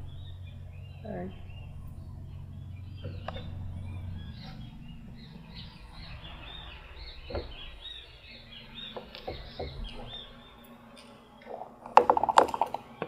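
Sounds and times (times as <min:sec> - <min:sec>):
low steady hum: 0:00.0 - 0:13.0
small bird chirping: 0:00.0 - 0:13.0.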